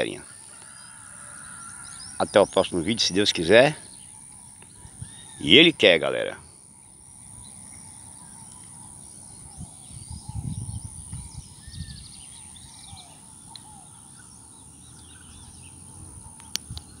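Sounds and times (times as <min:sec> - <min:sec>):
birds chirping: 0:00.0 - 0:17.0
steady high-pitched whine: 0:00.0 - 0:17.0.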